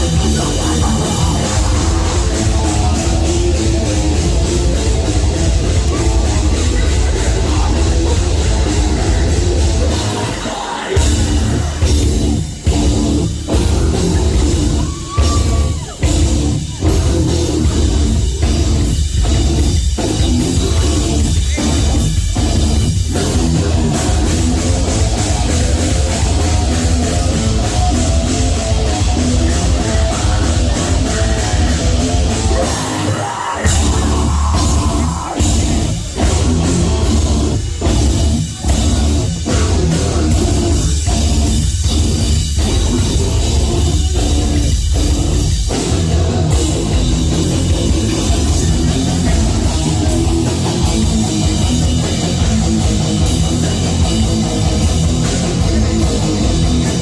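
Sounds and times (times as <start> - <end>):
bass guitar: 0.0 - 57.0
distorted guitars: 0.0 - 57.0
drum kit: 0.0 - 57.0.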